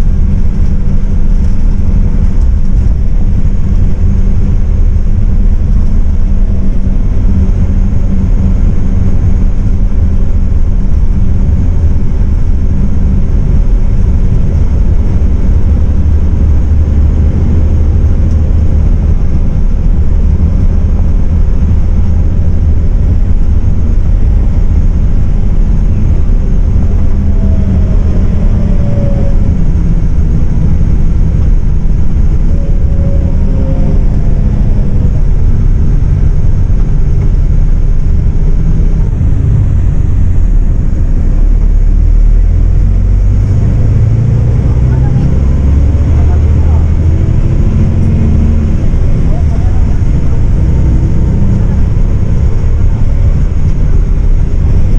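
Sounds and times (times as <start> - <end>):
diesel engine drone: 0.0 - 54.9
faint rising whine: 0.0 - 54.9
tyre and road rumble: 0.0 - 54.9.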